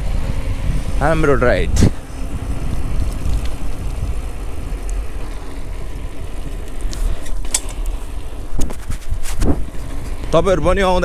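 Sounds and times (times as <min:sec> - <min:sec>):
bike tyres on wet asphalt: 0:00.0 - 0:11.0
wind buffeting microphone: 0:00.0 - 0:11.0.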